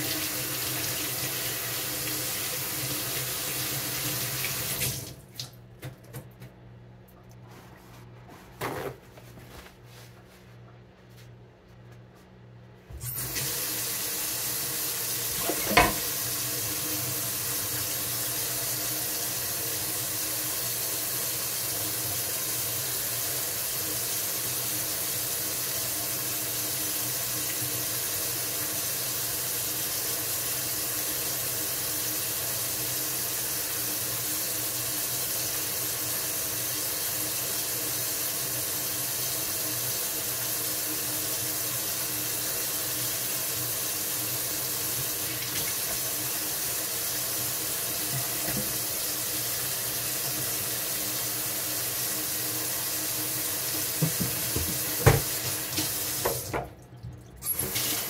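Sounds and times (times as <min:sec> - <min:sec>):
water running from a tap: 0:00.0 - 0:05.6, 0:13.0 - 0:58.0.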